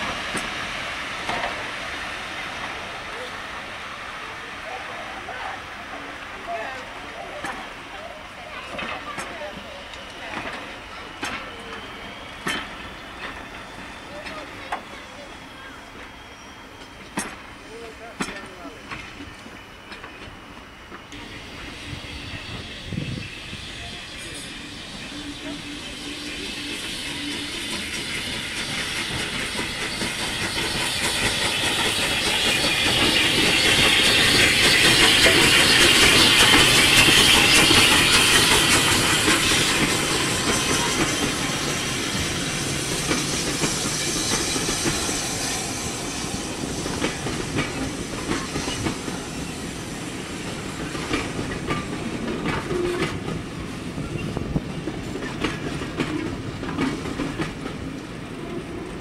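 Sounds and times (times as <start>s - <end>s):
train wheels clickety-clack: 0.0s - 3.4s, 4.6s - 16.1s, 16.7s - 59.0s
steam locomotive hissing: 0.0s - 59.0s.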